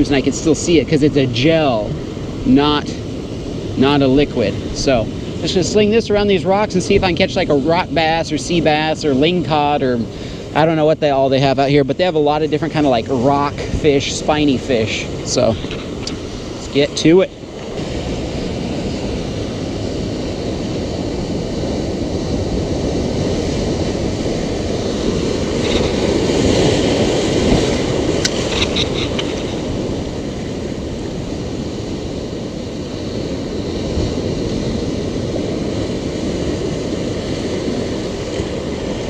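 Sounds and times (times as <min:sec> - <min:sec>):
ocean surf washing over rocks: 0:00.0 - 0:39.0.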